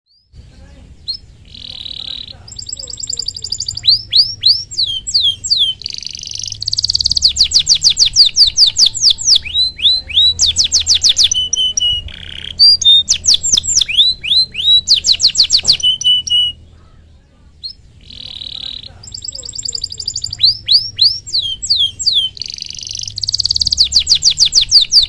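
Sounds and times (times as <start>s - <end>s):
canary singing trills: 0.1s - 25.0s.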